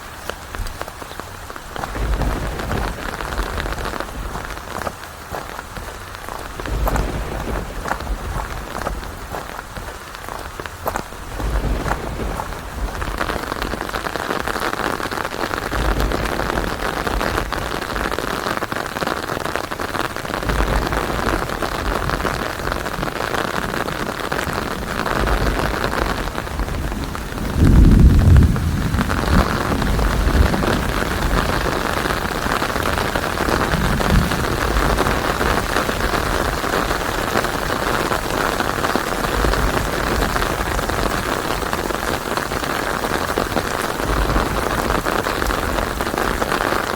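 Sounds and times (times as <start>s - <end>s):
heavy rain falling: 0.0s - 46.9s
distant thunder rumbling: 1.7s - 46.9s.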